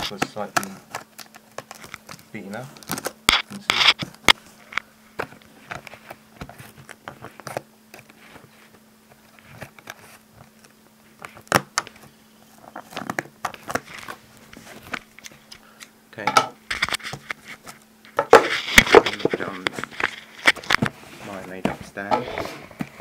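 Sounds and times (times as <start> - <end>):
cardboard parcel being opened: 0.0 - 15.5, 16.8 - 23.0
faint steady hum: 0.0 - 23.0.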